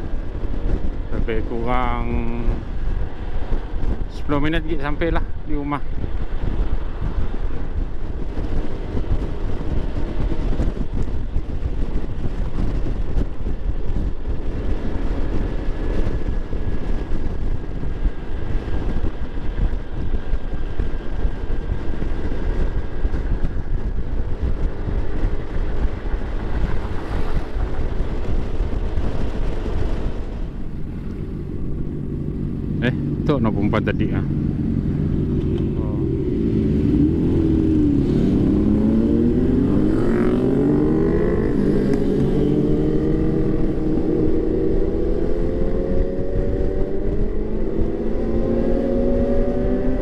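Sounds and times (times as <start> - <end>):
wind rush on microphone: 0.0 - 50.0
scooter engine drone: 5.2 - 50.0.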